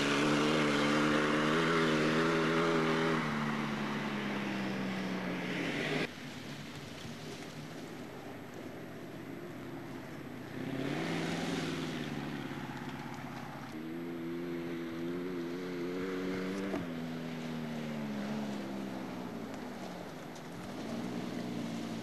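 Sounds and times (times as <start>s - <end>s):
racing vehicle engine under load: 0.0s - 6.1s, 7.0s - 22.0s.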